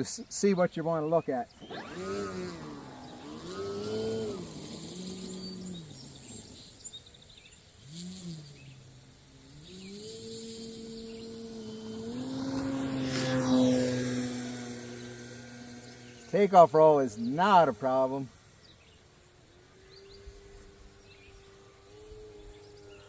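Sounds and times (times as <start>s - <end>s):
electric motor and propeller whining: 1.4s - 23.0s.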